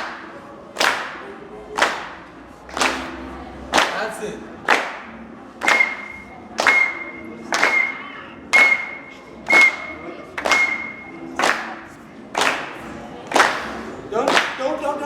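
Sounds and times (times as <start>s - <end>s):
audience clapping in unison: 0.0s - 8.0s, 9.5s - 14.8s.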